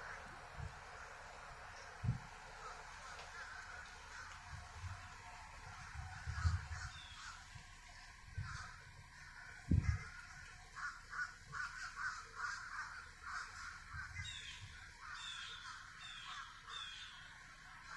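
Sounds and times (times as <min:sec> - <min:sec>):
crows cawing: 0:00.0 - 0:17.9.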